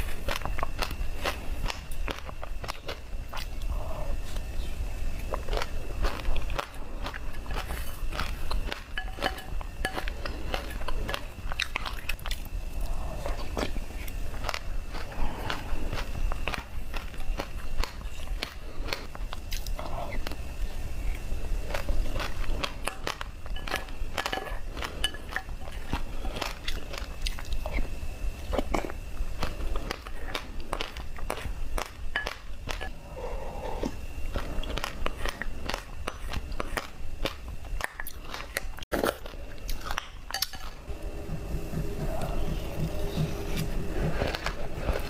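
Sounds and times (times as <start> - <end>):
chewing crunches: 0.0 - 33.0, 33.6 - 45.0.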